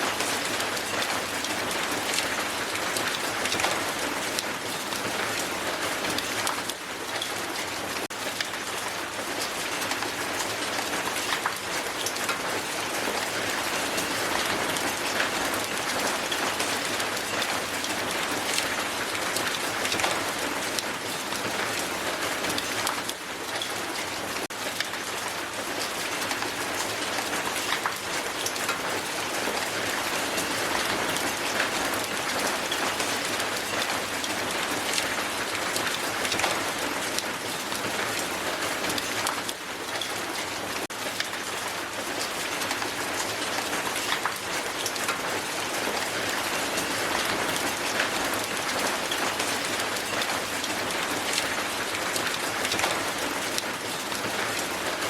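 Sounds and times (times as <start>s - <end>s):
hail falling on ground: 0.0s - 55.0s.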